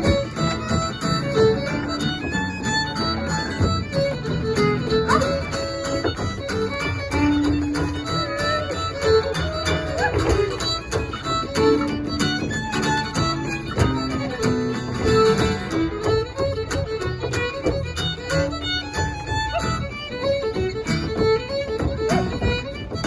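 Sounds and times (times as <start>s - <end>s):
fiddle and guitar hornpipe: 0.0s - 23.0s
sharp taps: 0.0s - 23.0s.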